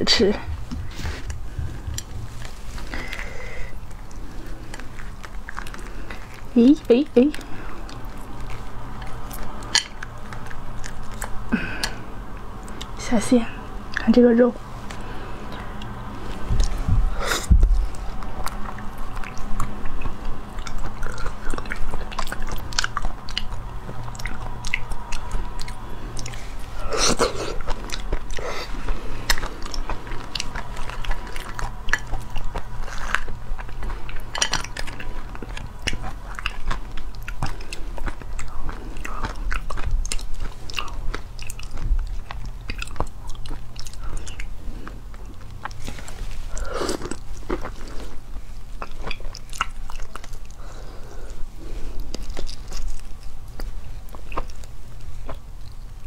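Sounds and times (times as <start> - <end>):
steady low hum: 0.0 - 56.0
chewing mouth sounds: 0.2 - 56.0.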